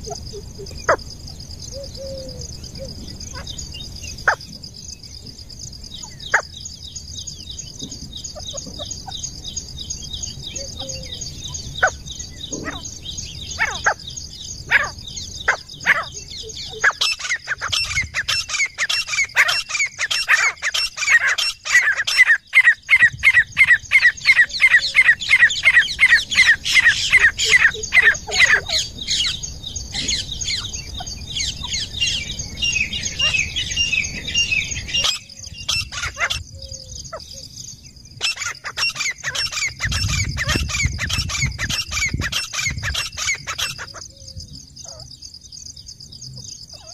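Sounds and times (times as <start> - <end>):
francolin calling: 0.0 - 46.9.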